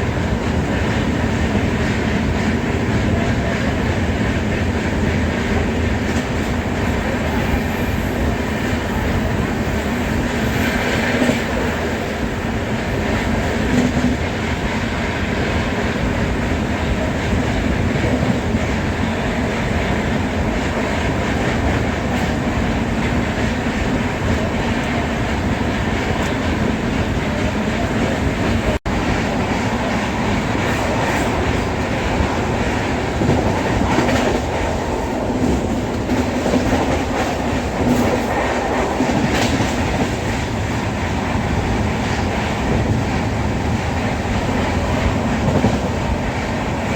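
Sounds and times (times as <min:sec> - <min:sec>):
rail-joint clickety-clack: 0:00.0 - 0:46.9
train wheels rumbling on rail: 0:00.0 - 0:46.9.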